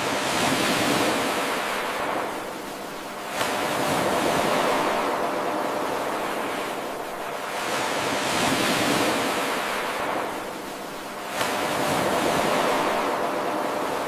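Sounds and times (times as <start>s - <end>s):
ocean waves washing onto shore: 0.0s - 14.0s.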